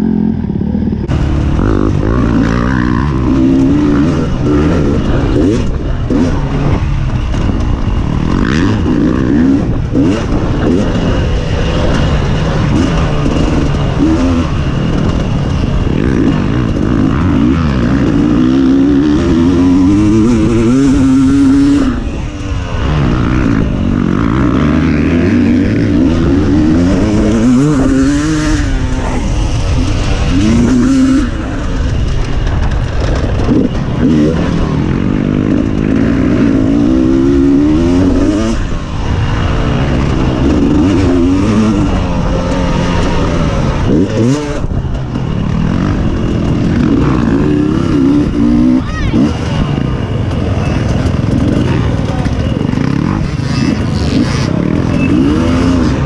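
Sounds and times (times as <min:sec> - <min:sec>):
motorcycle engine revving: 0:00.0 - 0:56.0
steady rushing noise: 0:00.0 - 0:56.0.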